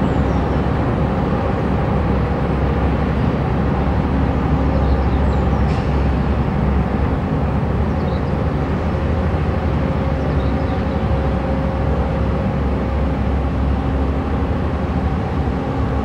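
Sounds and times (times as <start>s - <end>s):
diesel engine rumble and drone: 0.0s - 16.0s.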